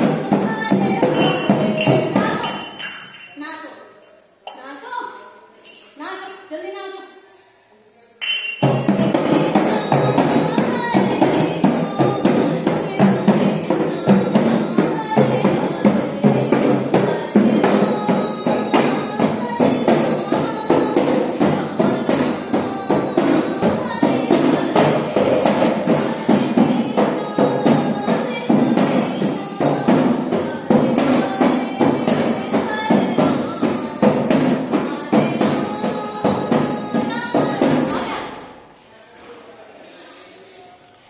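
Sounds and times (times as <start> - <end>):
woman singing devotional song: 0.0 - 3.3, 8.6 - 38.6
barrel drum rhythm: 0.0 - 3.6, 8.4 - 38.4.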